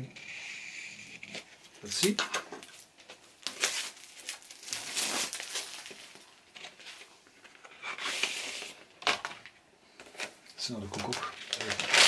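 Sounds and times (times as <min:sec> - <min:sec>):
plastic wrapping crinkling: 0:01.3 - 0:12.0.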